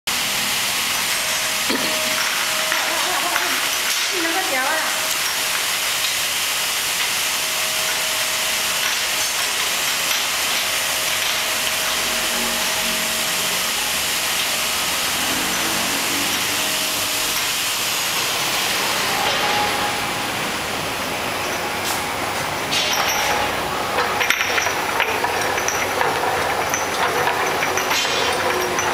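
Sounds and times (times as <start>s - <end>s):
machine running: 0.1s - 28.9s
rinsing jets hissing: 0.1s - 28.9s.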